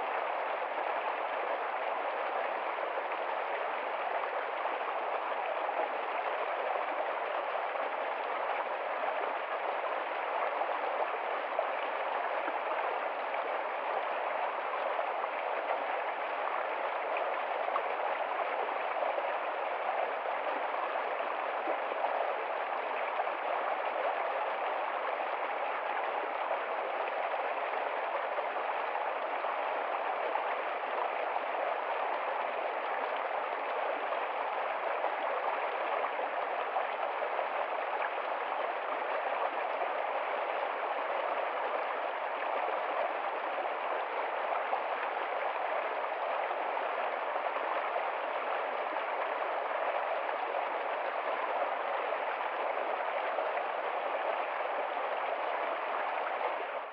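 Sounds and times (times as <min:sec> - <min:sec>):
stream flowing over stones: 0:00.0 - 0:56.9.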